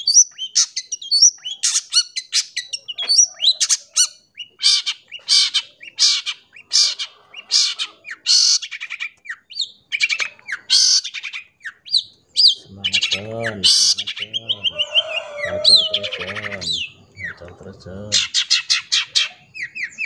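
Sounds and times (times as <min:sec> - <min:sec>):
shrike singing chirps and whistles: 0:00.0 - 0:17.5, 0:18.1 - 0:20.0
harsh rasping bird notes: 0:00.0 - 0:20.0.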